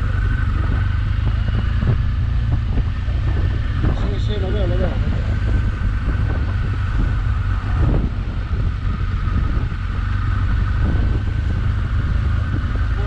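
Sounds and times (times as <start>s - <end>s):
motorcycle engine running: 0.0s - 13.0s
wind rushing on microphone: 0.0s - 13.0s.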